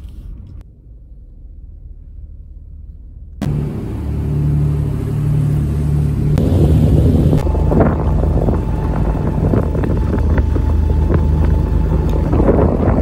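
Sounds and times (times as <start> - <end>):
low rumble in car cabin: 0.0 - 13.0
ship engines droning: 0.5 - 13.0.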